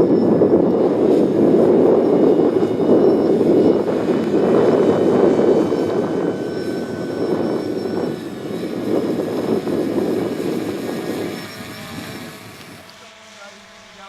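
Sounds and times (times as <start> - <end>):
model airplane motor whining: 0.0 - 14.0.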